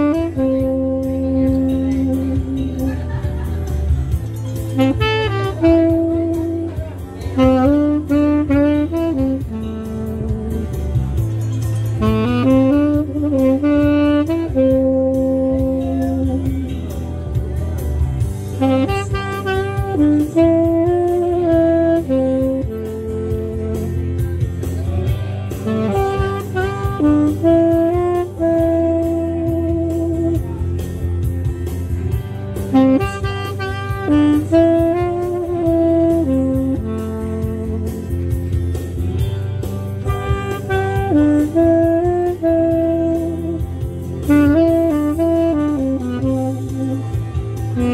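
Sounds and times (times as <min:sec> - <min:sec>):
saxophone melody: 0:00.0 - 0:17.4, 0:18.2 - 0:47.9
low bass accompaniment: 0:00.0 - 0:47.9.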